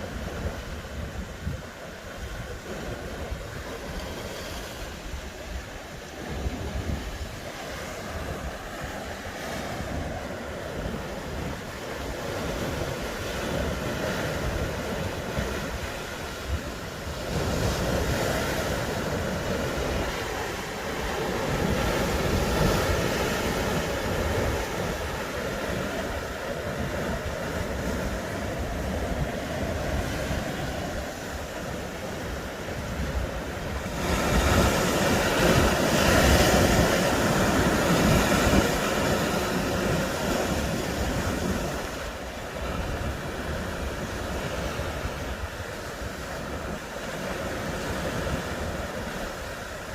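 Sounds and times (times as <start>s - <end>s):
sea waves washing in: 0.0s - 49.9s
wind buffeting microphone: 0.0s - 49.9s.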